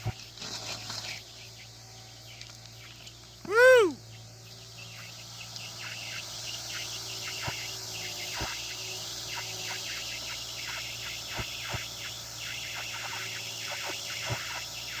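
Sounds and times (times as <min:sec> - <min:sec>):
insects chirping rapidly: 0:00.8 - 0:15.0.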